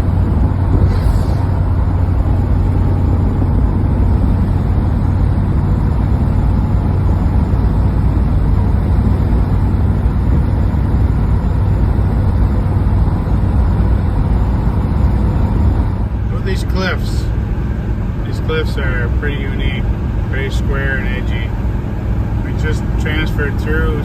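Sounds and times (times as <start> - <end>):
vehicle road noise: 0.0 - 24.0.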